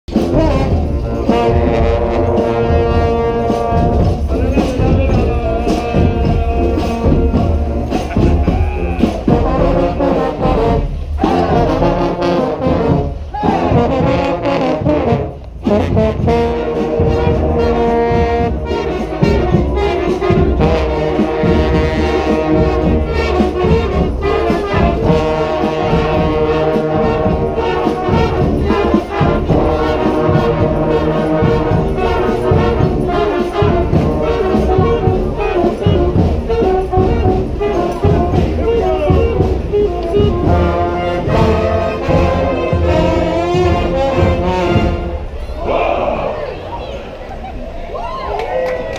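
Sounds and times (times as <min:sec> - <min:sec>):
brass band playing: 0:00.0 - 0:47.5.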